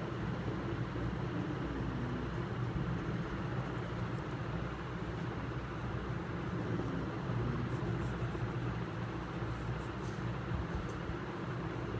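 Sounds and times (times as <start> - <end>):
low hum and rumble: 0.0 - 11.9.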